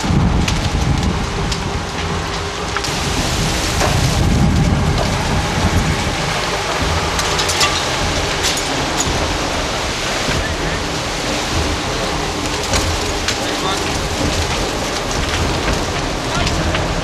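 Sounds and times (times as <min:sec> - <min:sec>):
fire crackling and popping: 0:00.0 - 0:17.0
flames roaring: 0:00.0 - 0:17.0.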